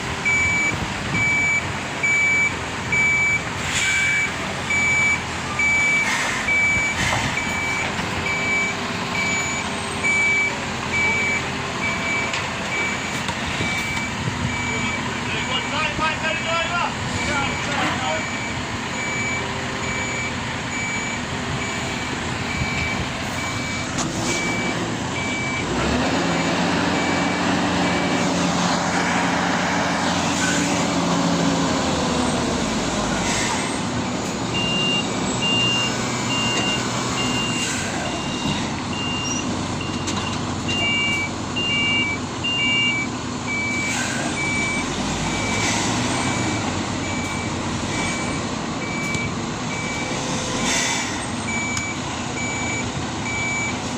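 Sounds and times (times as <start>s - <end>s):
diesel engine running: 0.0s - 53.9s
reversing alarms beeping: 0.2s - 29.1s, 34.5s - 50.2s, 50.8s - 53.9s.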